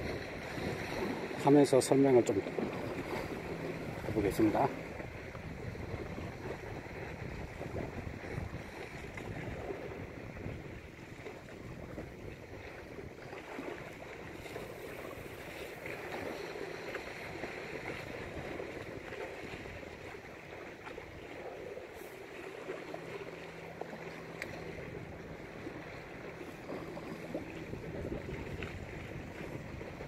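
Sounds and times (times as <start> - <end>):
small sea waves washing: 0.0 - 30.0.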